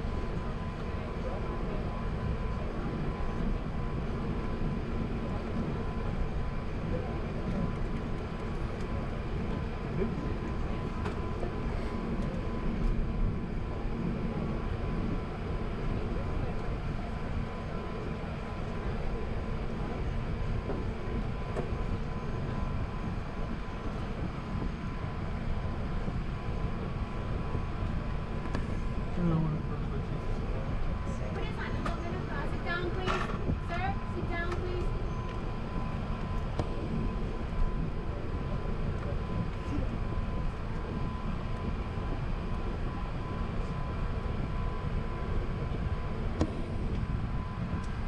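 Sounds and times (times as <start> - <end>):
aircraft cabin rumble: 0.0 - 48.0
faint steady whine: 0.0 - 48.0.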